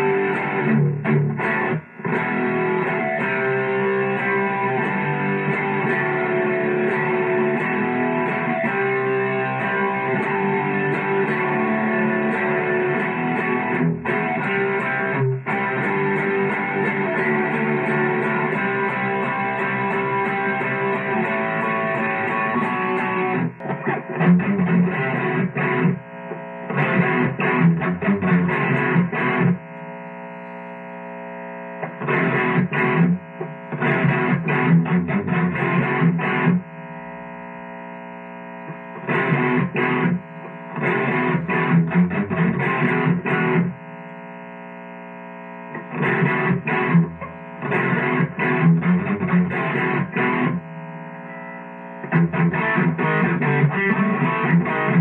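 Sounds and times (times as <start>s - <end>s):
electric guitar chugging riff: 0.0s - 31.0s, 31.6s - 55.0s
electric guitar sustained chords: 0.0s - 55.0s.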